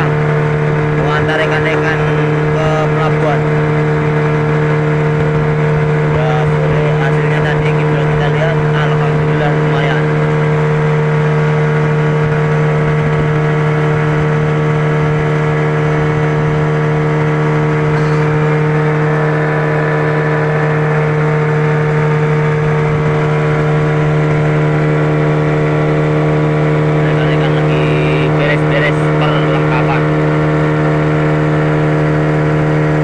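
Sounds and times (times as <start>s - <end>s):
motorboat engine droning: 0.0s - 33.0s.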